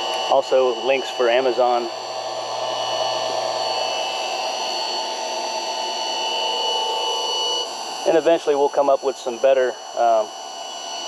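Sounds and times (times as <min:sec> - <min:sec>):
constant high whines: 0:00.0 - 0:11.0.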